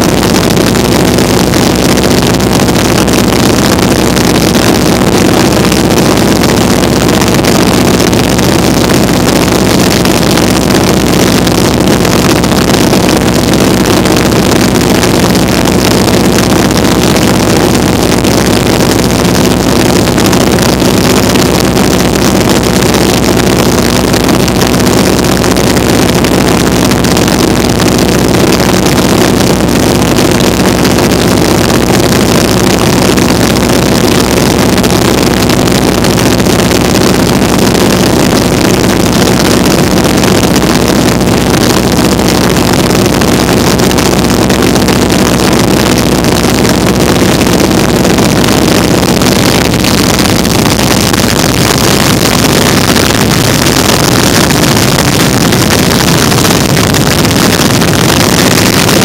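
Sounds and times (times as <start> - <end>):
propeller plane engine drone: 0.0 - 59.0
wind rushing over open cockpit: 0.0 - 59.0.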